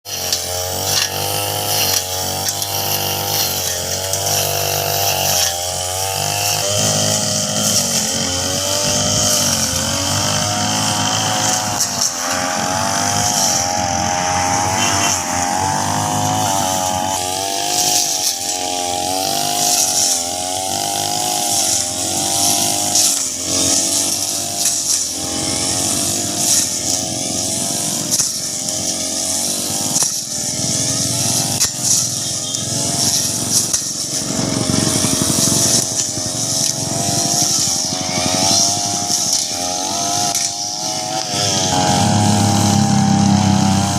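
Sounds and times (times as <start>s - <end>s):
brush cutter engine cutting grass: 0.0s - 43.9s.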